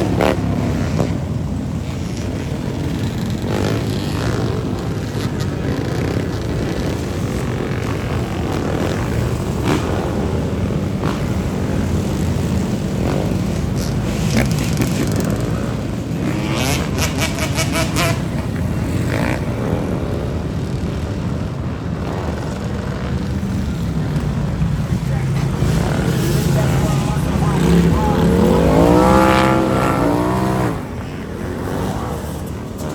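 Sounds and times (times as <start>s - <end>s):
motorcycles revving: 0.0s - 32.9s.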